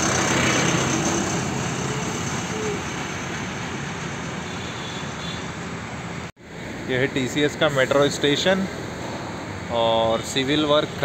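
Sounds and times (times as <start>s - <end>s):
vehicle road noise: 0.0s - 11.0s.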